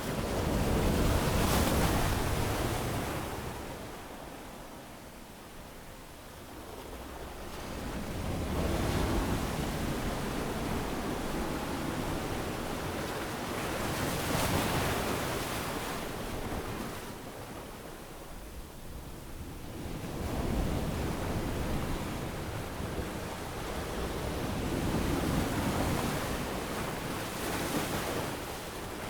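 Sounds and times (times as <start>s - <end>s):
ocean waves breaking on a beach: 0.0s - 29.0s.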